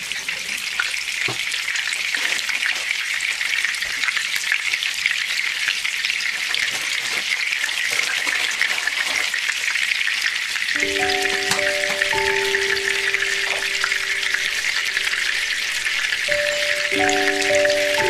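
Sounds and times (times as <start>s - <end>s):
pork cutlet sizzling in oil: 0.0s - 18.0s.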